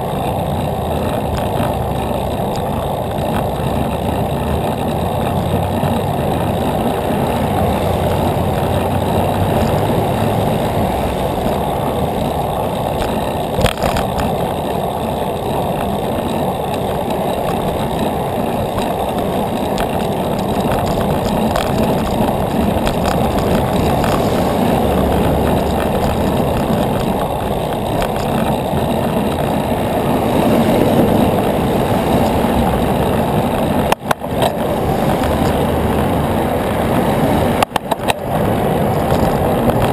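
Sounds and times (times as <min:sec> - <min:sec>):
vehicle traffic rumble: 0:00.0 - 0:39.9.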